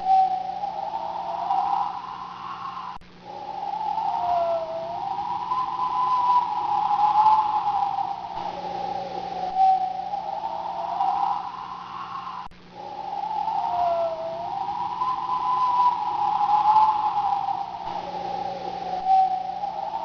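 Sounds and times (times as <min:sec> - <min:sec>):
storm wind howling: 0:00.0 - 0:20.0
faint rushing hiss: 0:00.4 - 0:20.0.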